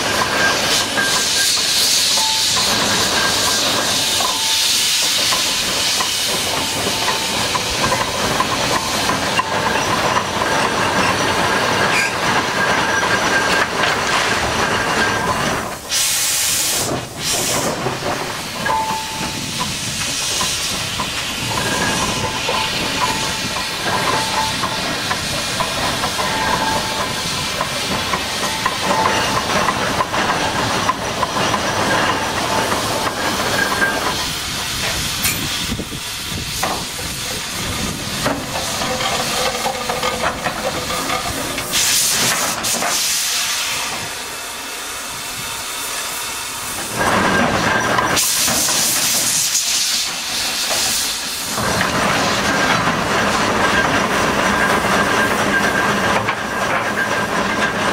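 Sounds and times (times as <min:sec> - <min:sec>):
rushes of steam: 0:00.0 - 0:57.9
steam engine hissing: 0:00.0 - 0:57.9.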